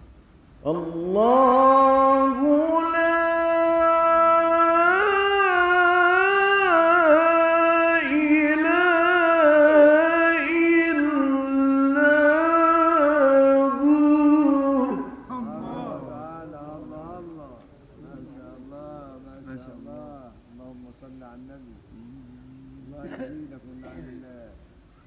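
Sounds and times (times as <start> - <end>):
man chanting melodically: 0.6 - 24.6.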